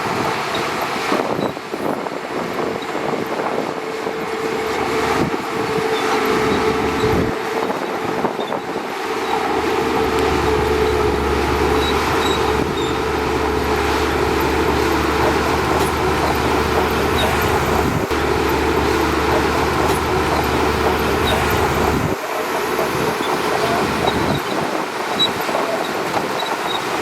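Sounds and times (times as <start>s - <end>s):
bulldozer track noise: 0.0s - 27.0s
bulldozer engine drone: 0.2s - 27.0s.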